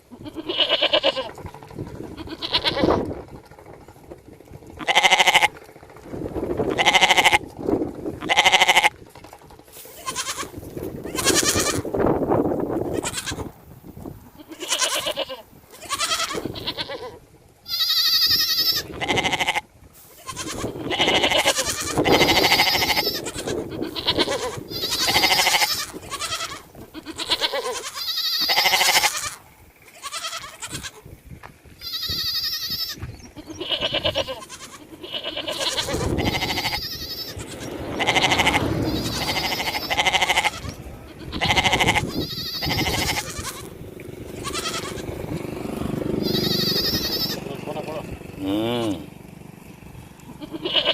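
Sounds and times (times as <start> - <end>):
sheep or goats bleating: 0.0 - 3.4, 4.8 - 5.6, 6.6 - 7.5, 8.2 - 9.0, 9.9 - 12.0, 12.7 - 13.6, 14.2 - 45.4, 46.2 - 49.1, 50.3 - 50.9.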